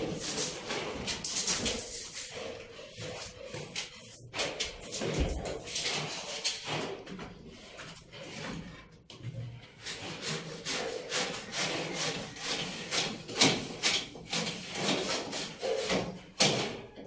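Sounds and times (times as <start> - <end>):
hand scraping strokes: 0.0 - 16.4.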